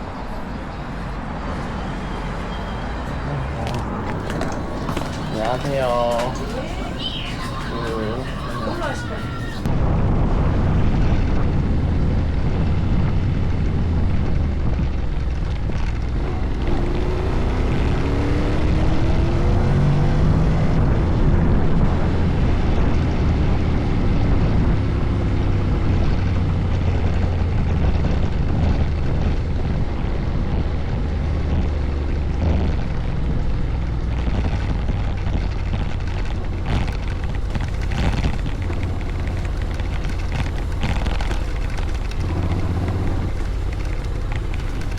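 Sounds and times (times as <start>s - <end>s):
scooter engine hum: 0.0s - 9.7s, 11.5s - 44.9s
wind rush over microphone: 0.0s - 44.9s.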